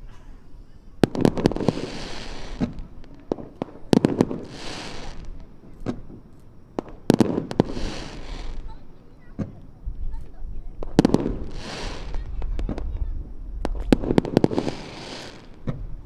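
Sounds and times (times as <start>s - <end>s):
fireworks crackling: 0.6s - 16.0s
fireworks sharp bangs: 1.0s - 9.8s, 10.6s - 16.0s.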